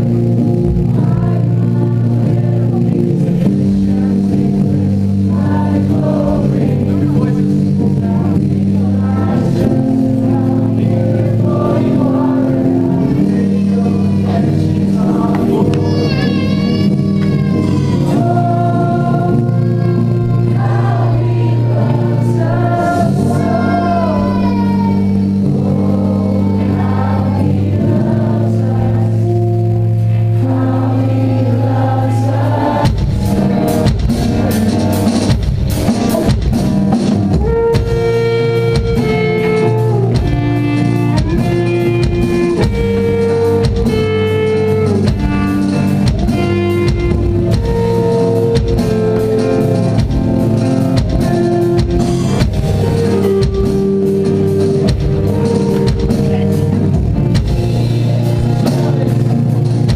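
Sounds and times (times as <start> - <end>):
held keyboard chords: 0.0 - 59.9
metalcore band playing loudly: 0.0 - 59.9.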